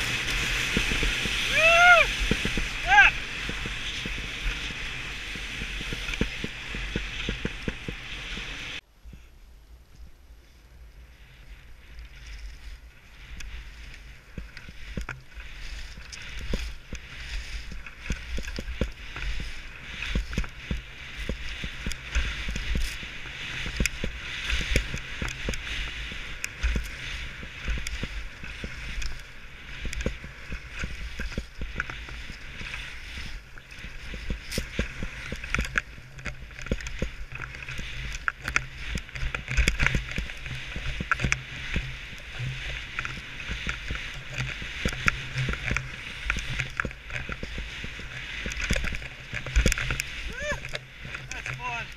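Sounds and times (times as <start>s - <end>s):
skis knocking over bumps: 0.0s - 8.8s, 13.6s - 51.9s
skis scraping over snow: 0.0s - 51.9s
wind rumble on microphone: 0.0s - 51.9s.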